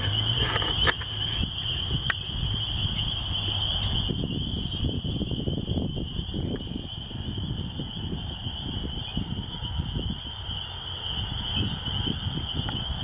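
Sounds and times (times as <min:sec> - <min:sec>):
bird chirping: 0:00.0 - 0:13.0
frogs peeping: 0:00.0 - 0:13.0.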